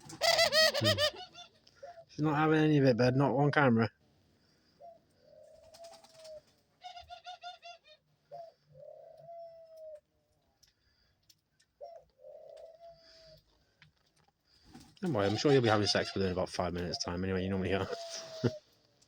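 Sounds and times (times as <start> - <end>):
dove cooing softly: 0.0 - 2.2, 4.4 - 13.7, 14.5 - 19.0.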